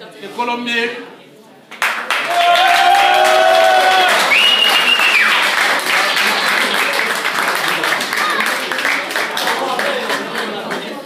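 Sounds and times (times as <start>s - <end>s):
crowd applauding: 1.7s - 11.0s.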